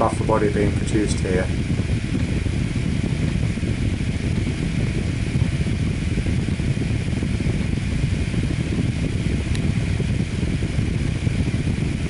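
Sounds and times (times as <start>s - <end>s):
three d printer fans and motors whirring: 0.0s - 12.0s.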